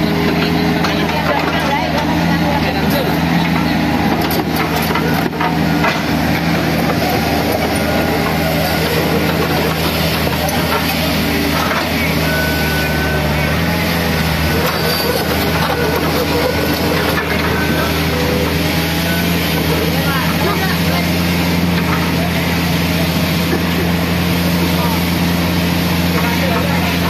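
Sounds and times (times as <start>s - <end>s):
large engine running: 0.0s - 27.0s.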